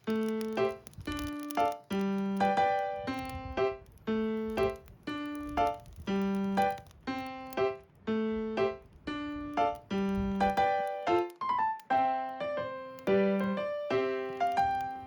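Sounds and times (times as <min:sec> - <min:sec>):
gentle electric piano melody: 0:00.0 - 0:15.0.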